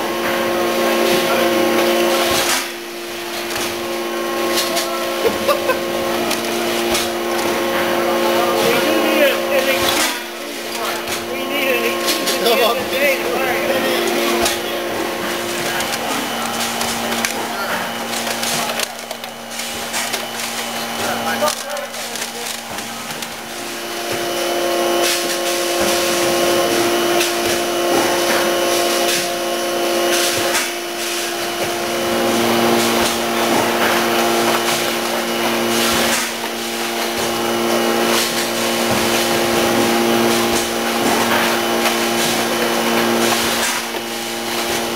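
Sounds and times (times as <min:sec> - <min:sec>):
packaging machine hum: 0:00.0 - 0:44.9.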